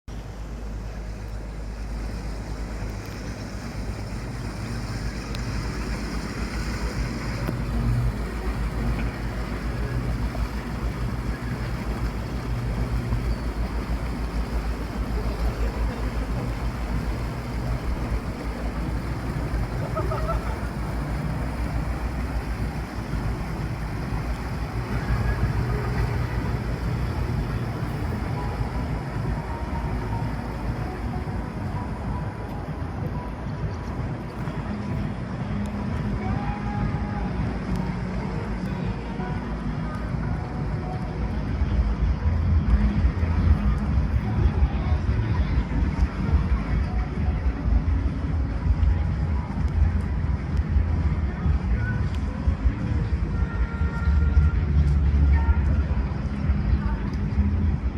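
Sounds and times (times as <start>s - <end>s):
boat engine humming: 0.0s - 57.9s
water rushing: 0.1s - 57.9s
wind buffeting microphone: 0.5s - 57.9s.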